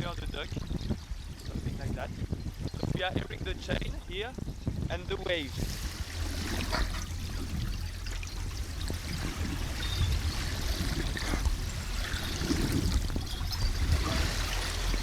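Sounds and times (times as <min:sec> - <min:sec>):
waves sloshing: 0:00.0 - 0:04.4, 0:05.0 - 0:15.0
low wind rumble: 0:00.0 - 0:15.0.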